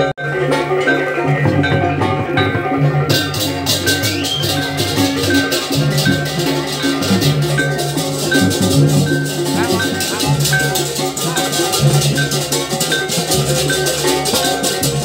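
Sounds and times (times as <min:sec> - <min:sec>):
cymbals: 0:00.0 - 0:15.0
drums: 0:00.0 - 0:15.0
metallophones playing repeating notes: 0:00.0 - 0:15.0.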